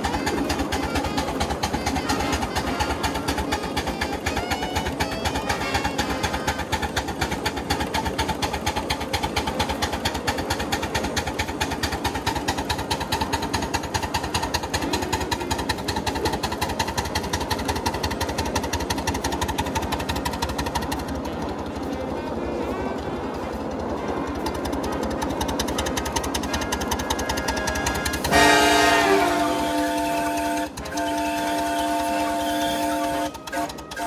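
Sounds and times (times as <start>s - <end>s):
steam locomotive exhaust beating: 0.0s - 34.0s.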